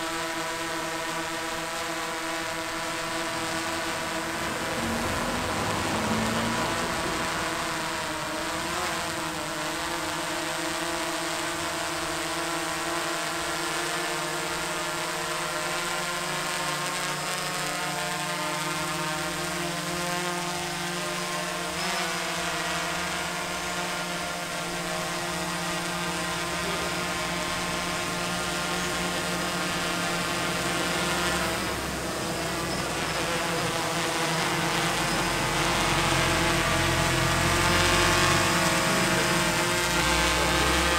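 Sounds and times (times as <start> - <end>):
drone motors humming: 0.0 - 40.9.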